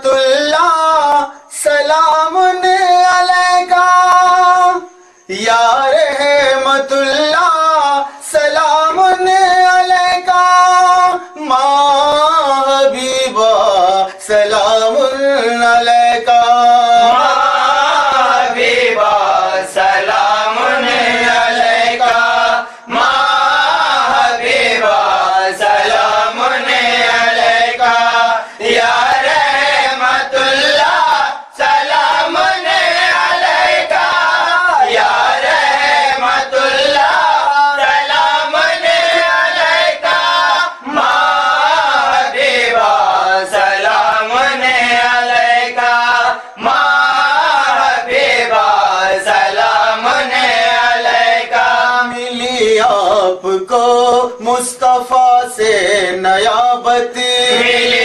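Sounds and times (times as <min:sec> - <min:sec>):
men chanting together: 0:00.0 - 0:58.0.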